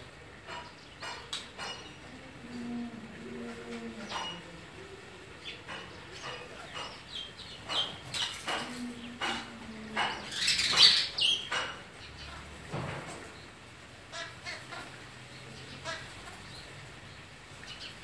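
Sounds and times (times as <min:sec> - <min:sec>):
sparrows chirping: 0:00.0 - 0:18.0.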